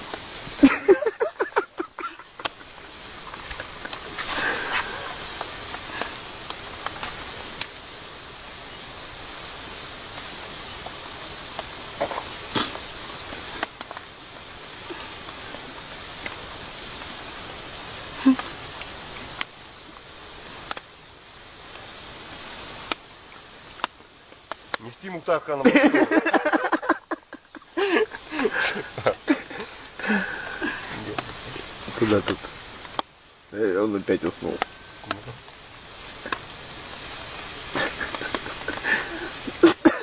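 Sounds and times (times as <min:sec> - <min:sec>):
faint clicks and rustles: 0:00.0 - 0:40.0
outdoor background hiss: 0:00.0 - 0:40.0.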